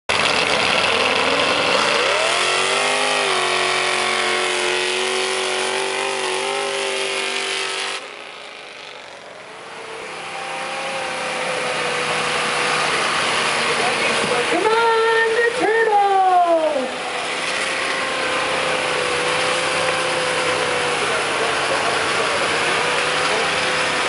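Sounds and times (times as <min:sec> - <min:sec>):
distant engine: 0:00.1 - 0:24.0
truck engine at full throttle: 0:00.1 - 0:24.0.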